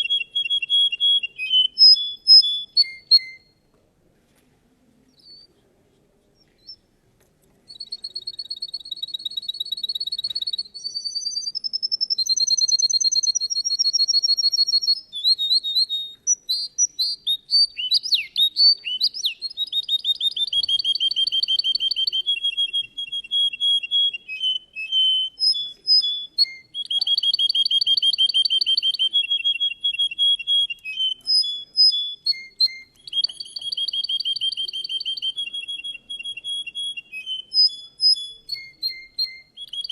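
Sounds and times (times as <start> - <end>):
canary singing: 0.0 - 3.6, 7.7 - 39.9.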